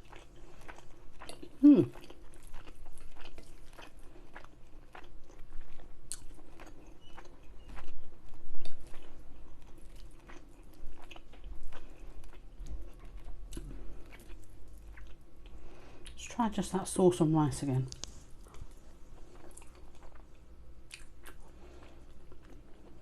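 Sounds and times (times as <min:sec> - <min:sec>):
close chewing with mouth smacks: 0:00.0 - 0:16.2, 0:17.9 - 0:23.0.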